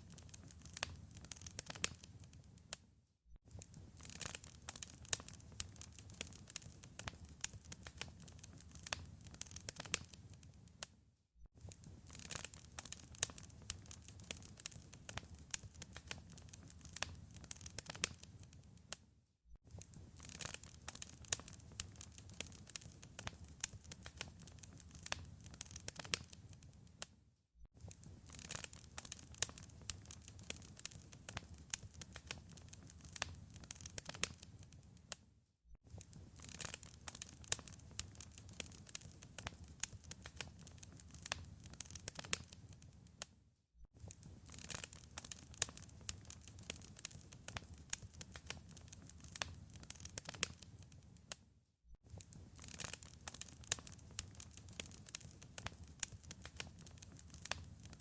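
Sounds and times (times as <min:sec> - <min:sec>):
wood fire crackling and popping: 0:00.0 - 0:02.6, 0:03.5 - 0:10.8, 0:11.6 - 0:19.0, 0:19.7 - 0:27.0, 0:27.8 - 0:35.2, 0:35.9 - 0:43.0, 0:44.0 - 0:51.4, 0:52.1 - 0:58.0.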